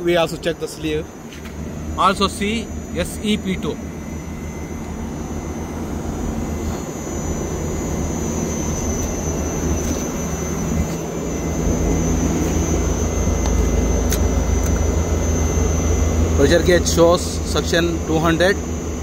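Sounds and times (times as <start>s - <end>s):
thin high tone: 0.0s - 18.6s
compressor hum: 0.0s - 19.0s.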